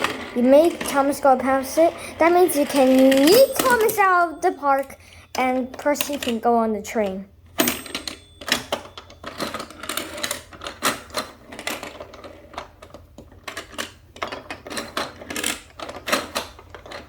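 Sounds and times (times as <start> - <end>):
plastic toy train clattering: 0.0 - 6.4, 7.8 - 17.0.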